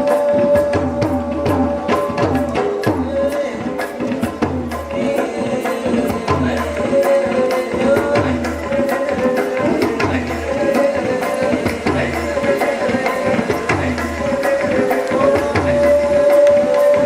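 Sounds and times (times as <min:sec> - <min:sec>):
drum rhythm: 0:00.0 - 0:17.0
wavering melody: 0:00.0 - 0:17.0.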